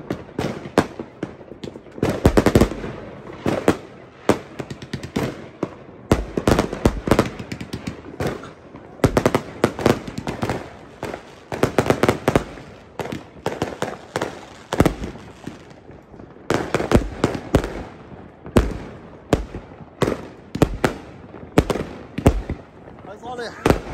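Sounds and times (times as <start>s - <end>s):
fireworks bangs and crackling: 0.0s - 23.9s.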